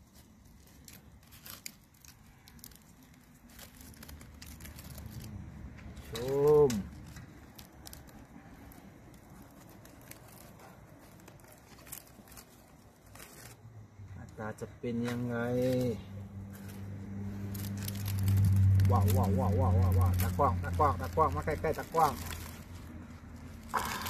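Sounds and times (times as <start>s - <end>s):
leaves crinkling and clicking: 0.0s - 24.0s.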